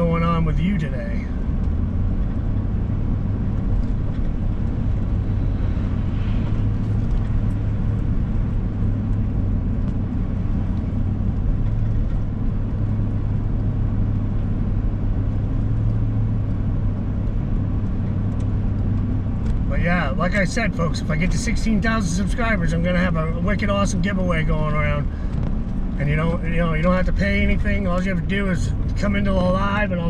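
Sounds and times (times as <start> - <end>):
car cabin road noise: 0.0 - 30.0.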